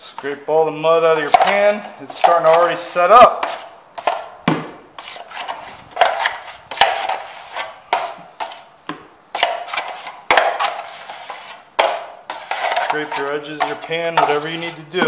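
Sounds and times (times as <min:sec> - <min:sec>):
drywall knife scraping pan: 0:01.1 - 0:04.4, 0:05.0 - 0:08.7, 0:09.3 - 0:15.0.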